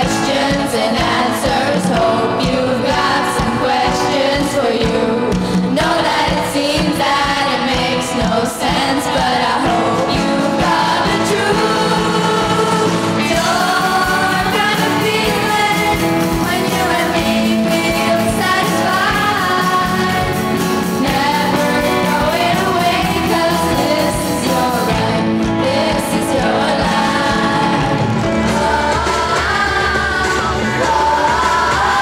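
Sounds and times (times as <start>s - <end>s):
piano accompaniment: 0.0s - 32.0s
vocal ensemble singing: 0.0s - 32.0s.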